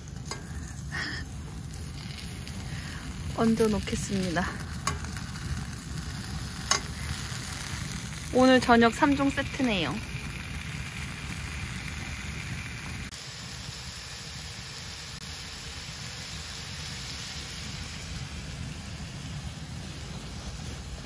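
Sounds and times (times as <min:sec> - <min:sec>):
pork sizzling in a skillet: 0:00.0 - 0:21.0.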